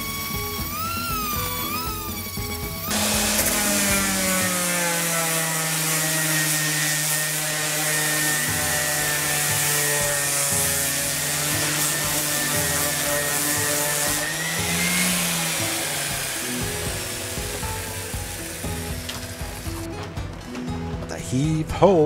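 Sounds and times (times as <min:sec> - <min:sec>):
orbital sander sanding wood: 0:00.0 - 0:20.0.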